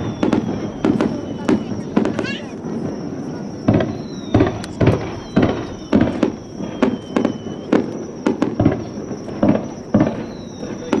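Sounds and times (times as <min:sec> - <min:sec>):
faint high whistle: 0:00.0 - 0:11.0
fireworks shells bursting: 0:00.0 - 0:11.0.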